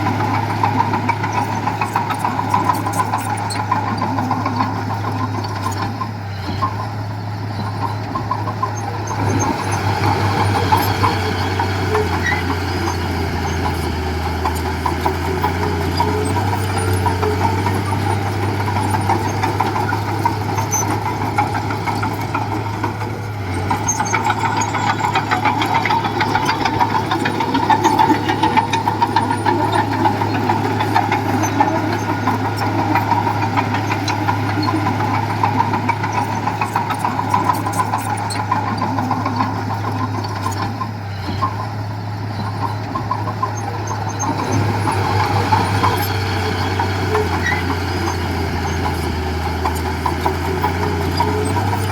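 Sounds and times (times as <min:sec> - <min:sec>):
heavy machinery diesel engine rattling: 0:00.0 - 0:51.9.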